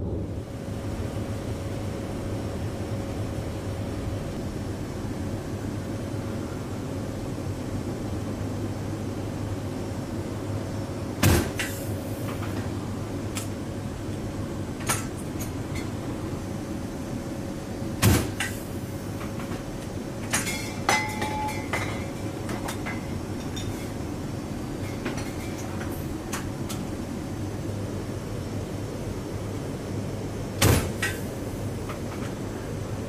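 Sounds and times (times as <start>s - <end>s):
turboprop engines droning: 0.0s - 33.0s.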